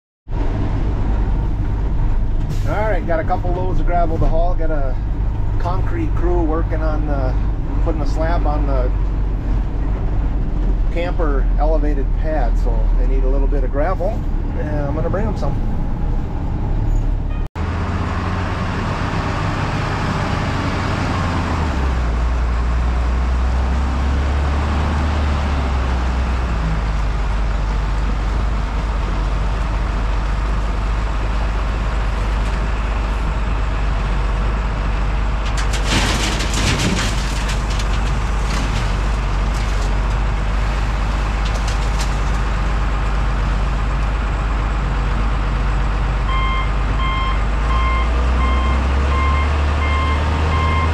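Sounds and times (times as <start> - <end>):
truck engine droning: 0.3 - 50.9.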